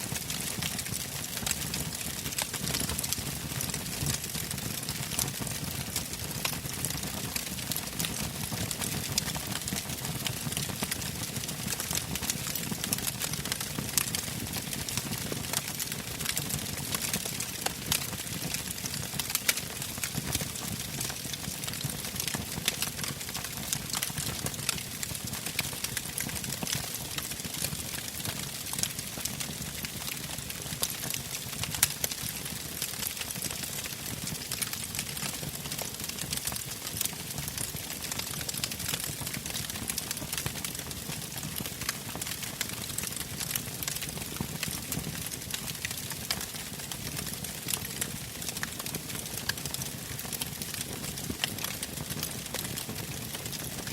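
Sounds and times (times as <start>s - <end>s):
campfire flames rumbling: 0.0s - 5.5s, 10.6s - 53.7s
crackles and pops of burning logs: 0.0s - 53.8s.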